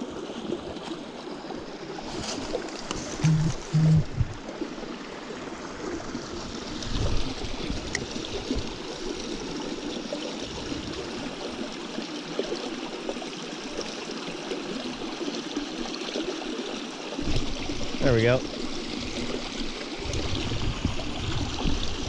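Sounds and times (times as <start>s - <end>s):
stream trickling: 0.0s - 22.0s.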